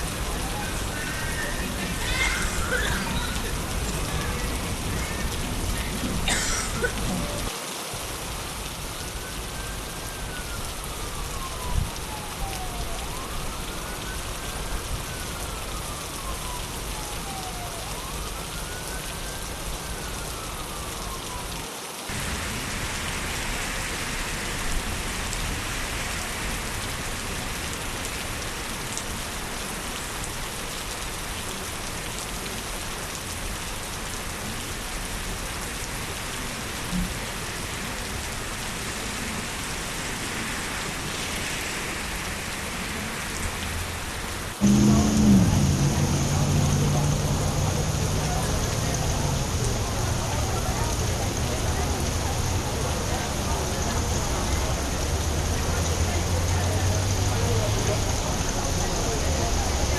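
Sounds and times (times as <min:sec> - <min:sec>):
faint siren wailing: 0:00.0 - 0:07.5, 0:08.7 - 0:59.4
rain falling on street: 0:00.0 - 0:59.9.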